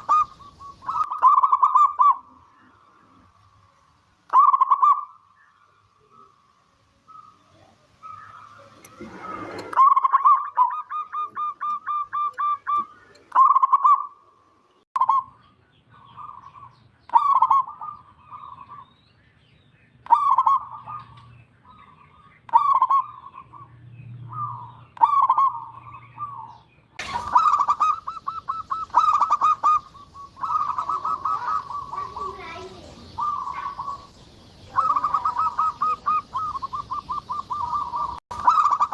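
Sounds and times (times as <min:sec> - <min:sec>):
dove cooing: 0:00.0 - 0:03.4, 0:04.3 - 0:05.2, 0:07.1 - 0:14.2, 0:16.0 - 0:18.8, 0:20.1 - 0:23.7, 0:24.3 - 0:38.9.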